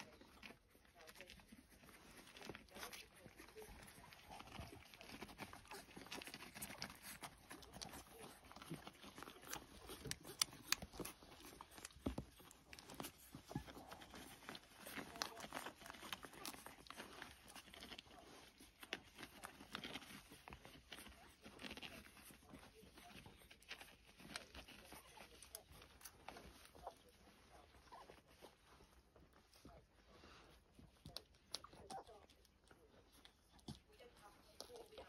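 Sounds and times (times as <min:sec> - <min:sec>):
shuffling on a blanket: 0:00.0 - 0:31.2
puppies suckling: 0:00.0 - 0:35.0
puppy noises: 0:00.0 - 0:35.0.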